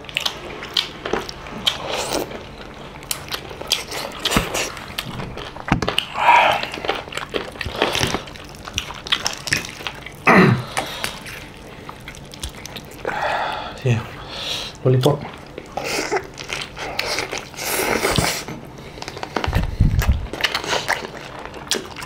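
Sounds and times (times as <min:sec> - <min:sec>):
chewing and lip smacks: 0:00.0 - 0:13.1, 0:15.0 - 0:22.0.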